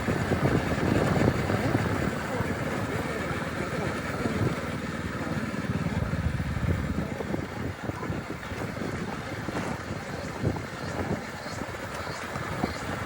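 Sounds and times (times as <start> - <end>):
motorcycle engine rumbling off-road: 0.0 - 13.0.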